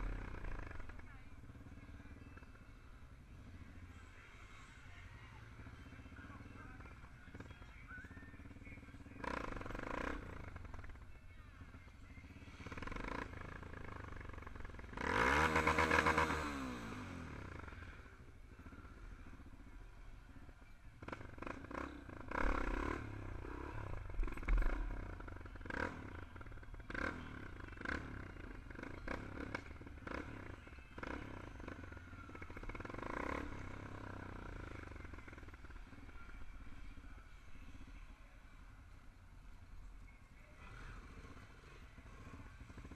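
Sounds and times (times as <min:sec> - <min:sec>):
motorcycle engine bursts and clatter: 0:00.0 - 0:03.9, 0:08.3 - 0:37.9, 0:38.6 - 0:42.9
motorcycle passing by: 0:00.0 - 0:19.5, 0:20.3 - 0:42.9.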